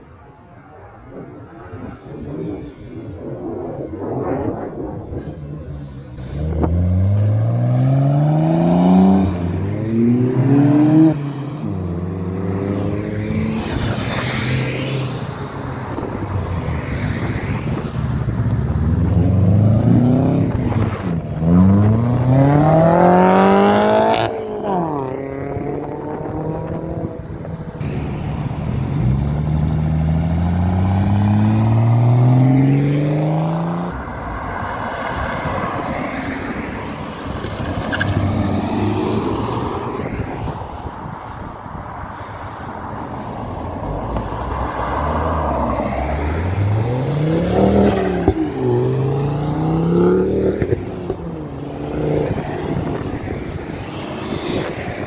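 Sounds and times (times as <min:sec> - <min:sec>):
cars accelerating hard: 0:01.0 - 0:41.4, 0:42.0 - 0:55.0.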